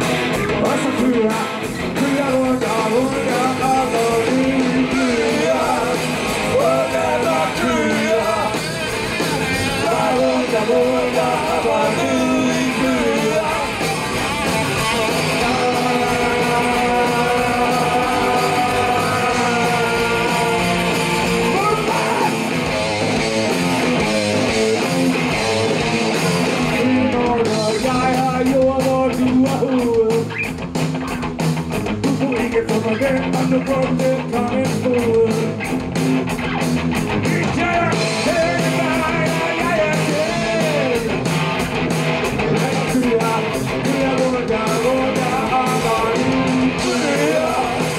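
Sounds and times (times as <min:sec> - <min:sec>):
person singing lead vocal: 0:00.0 - 0:22.6, 0:26.7 - 0:30.4, 0:32.0 - 0:35.6, 0:37.2 - 0:41.3, 0:42.4 - 0:47.9
rock band playing: 0:00.0 - 0:47.9.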